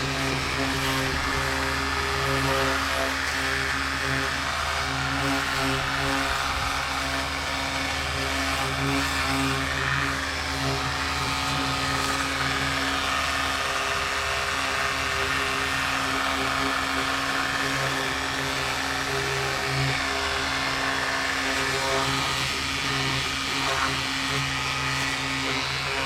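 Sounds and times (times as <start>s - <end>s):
pressure washer pump humming: 0.0s - 26.0s.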